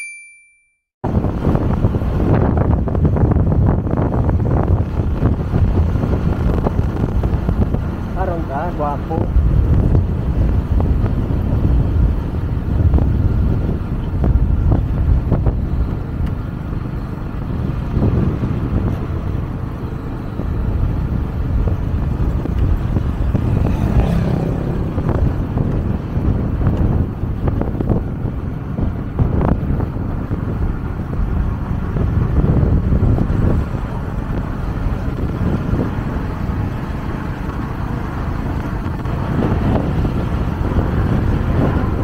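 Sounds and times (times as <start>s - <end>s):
wind buffeting microphone: 1.0s - 42.0s
motorcycle engine running: 1.1s - 42.0s.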